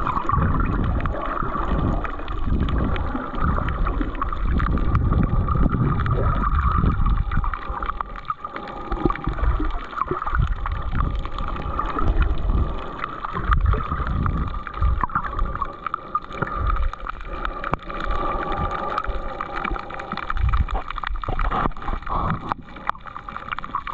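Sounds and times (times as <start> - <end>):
muffled underwater rumbles: 0.0 - 23.9.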